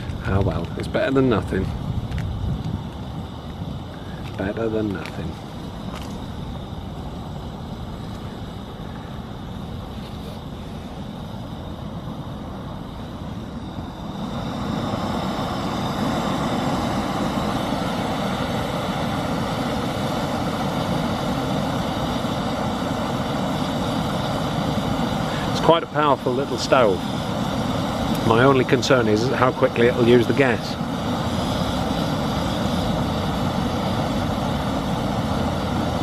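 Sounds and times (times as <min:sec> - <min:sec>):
gas stove burner rushing: 0:00.0 - 0:36.0.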